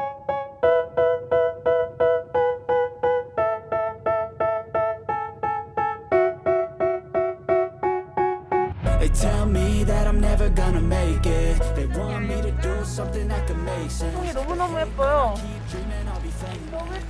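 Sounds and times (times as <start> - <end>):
keyboard playing detached chords: 0.0 - 17.0.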